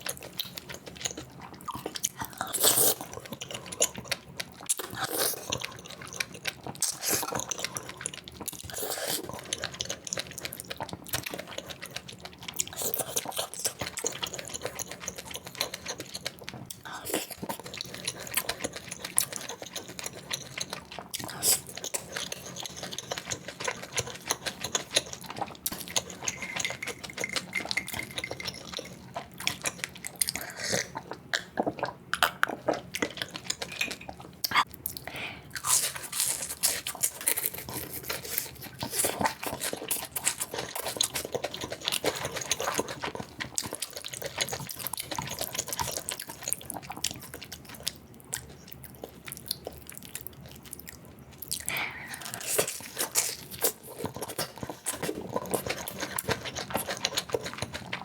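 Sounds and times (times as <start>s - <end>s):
biting and chewing: 0.0s - 58.0s.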